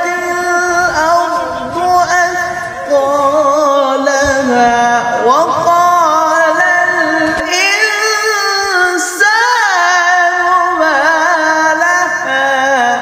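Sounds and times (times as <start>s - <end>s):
person singing slow melody: 0.0s - 13.0s.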